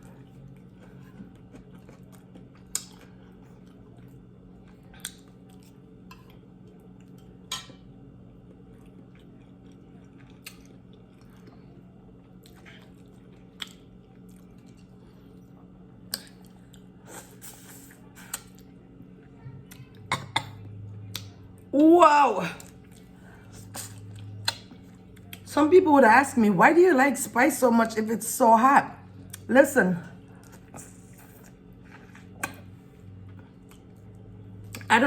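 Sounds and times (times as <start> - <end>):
quiet chewing: 0.0 - 21.8, 22.6 - 25.5, 29.2 - 29.5, 30.2 - 34.9.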